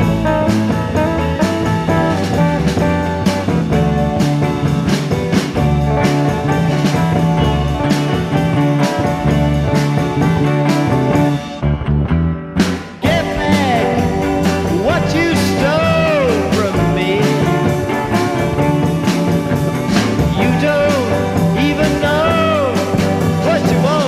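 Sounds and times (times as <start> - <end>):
psychedelic rock band playing: 0.0 - 24.0
sliding lead guitar line: 0.0 - 24.0.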